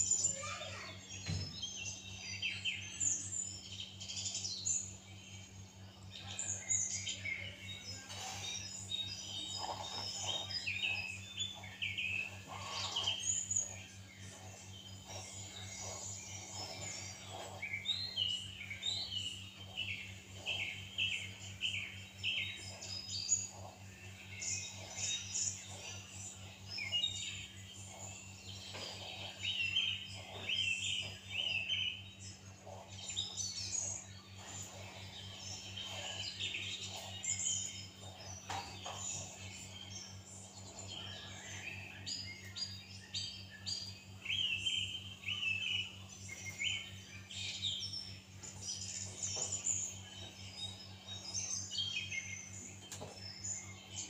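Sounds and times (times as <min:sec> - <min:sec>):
small birds chirping: 0:00.0 - 0:54.0
steady low hum: 0:01.3 - 0:54.0.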